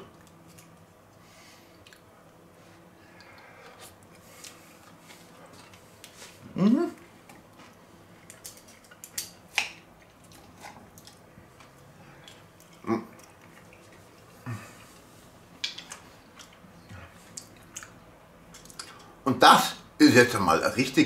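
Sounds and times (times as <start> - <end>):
quiet chewing: 0.0 - 19.2.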